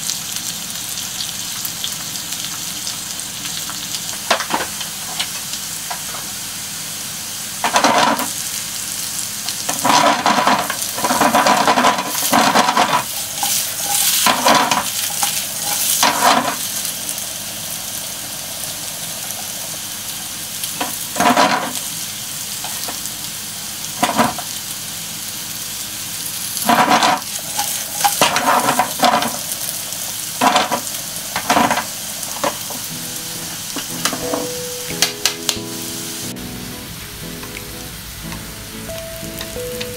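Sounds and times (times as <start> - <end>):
sizzle and clatter of flipping: 0.0 - 6.7, 7.5 - 35.7
potatoes sizzling in a frying pan: 0.0 - 39.9.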